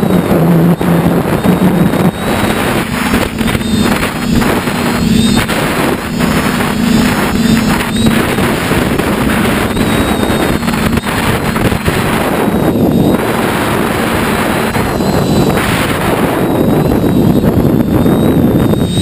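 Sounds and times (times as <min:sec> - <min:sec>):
model aircraft motor and propeller: 0:00.0 - 0:19.0
wind rush on microphone: 0:00.0 - 0:19.0.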